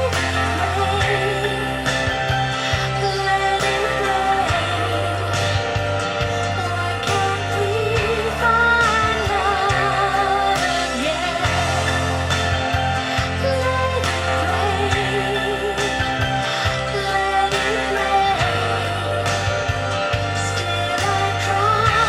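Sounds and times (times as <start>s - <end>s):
soprano singing with vibrato: 0.0s - 22.0s.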